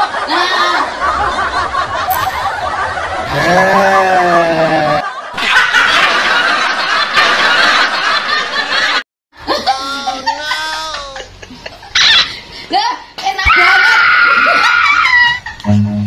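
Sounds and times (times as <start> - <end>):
man and woman laughing: 0.0 - 12.5, 14.3 - 15.8.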